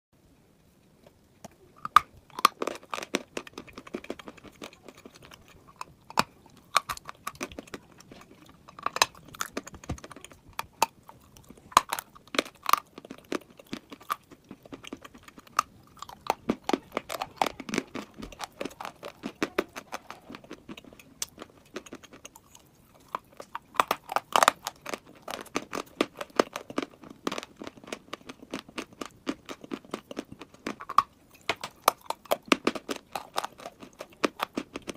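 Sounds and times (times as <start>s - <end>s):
chewing dry chalk crunches: 1.0s - 34.9s.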